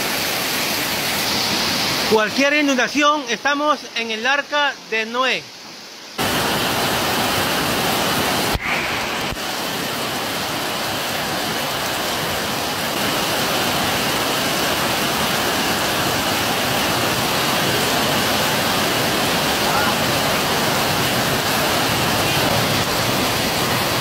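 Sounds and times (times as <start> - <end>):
heavy rain on awnings: 0.0 - 3.3, 5.5 - 24.0
water streaming off awnings: 0.0 - 24.0.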